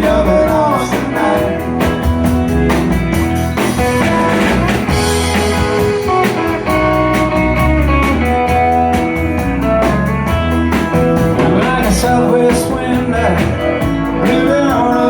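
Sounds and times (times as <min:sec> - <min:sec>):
lead guitar: 0:00.0 - 0:15.0
live country band playing: 0:00.0 - 0:15.0.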